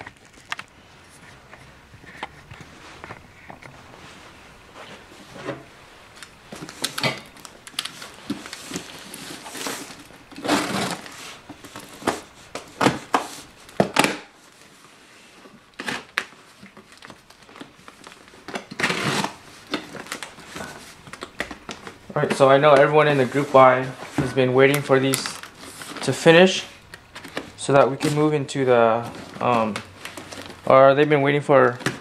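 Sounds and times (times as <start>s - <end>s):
cardboard box crinkling and scraping: 0.0s - 13.6s, 14.6s - 30.8s.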